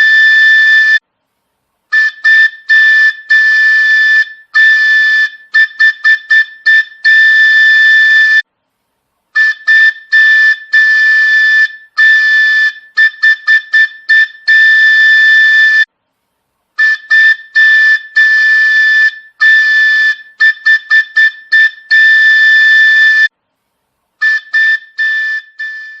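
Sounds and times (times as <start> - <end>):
high-pitched whistle blasts: 0.0 - 1.0, 1.9 - 8.5, 9.4 - 15.9, 16.8 - 23.3, 24.2 - 26.0.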